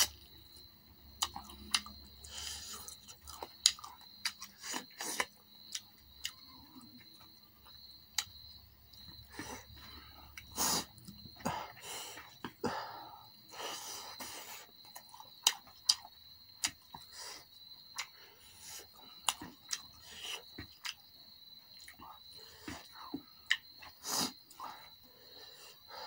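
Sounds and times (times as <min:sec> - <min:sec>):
chewing meat: 0:00.0 - 0:12.8, 0:13.5 - 0:25.9.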